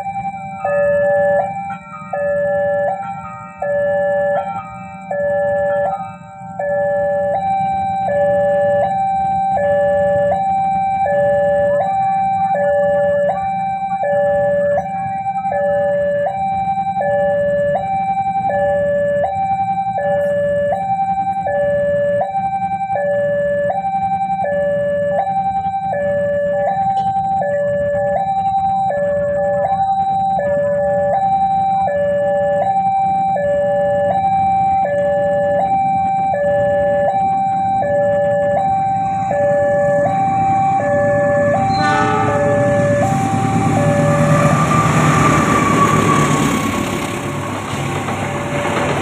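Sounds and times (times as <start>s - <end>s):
two-tone crossing alarm: 0.0s - 49.0s.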